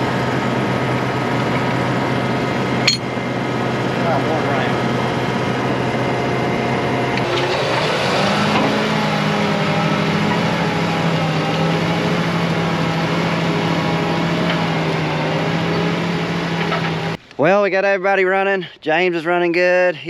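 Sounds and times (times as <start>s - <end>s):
tractor engine under load: 0.0s - 17.5s.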